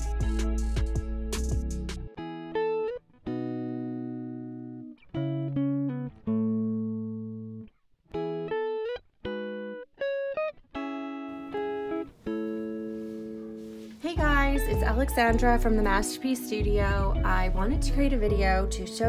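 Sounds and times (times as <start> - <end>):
solo guitar plucking: 2.1 - 19.0.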